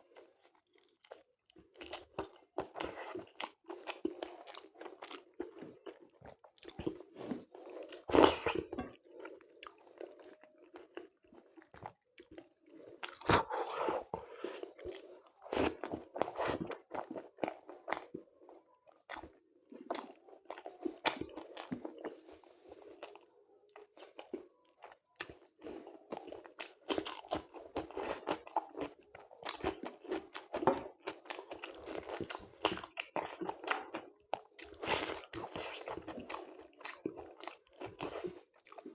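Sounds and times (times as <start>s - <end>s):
wet chewing and mouth smacks: 0.1s - 38.9s.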